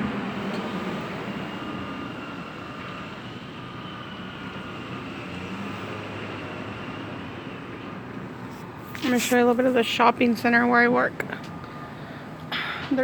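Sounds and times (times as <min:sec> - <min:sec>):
vehicle rumble and hiss: 0:00.0 - 0:13.0.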